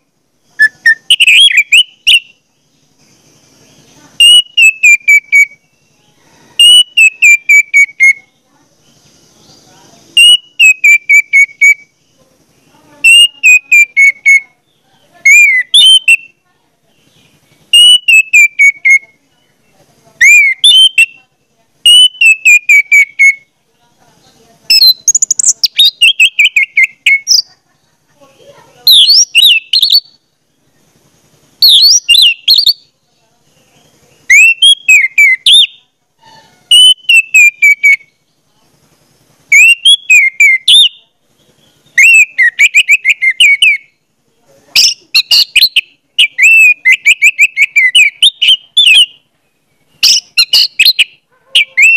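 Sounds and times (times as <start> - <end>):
bird singing whistled chirps: 0.4 - 23.5, 24.6 - 27.5, 28.8 - 30.8, 31.6 - 32.9, 33.5 - 35.9, 36.7 - 38.4, 39.5 - 44.0, 44.7 - 51.9.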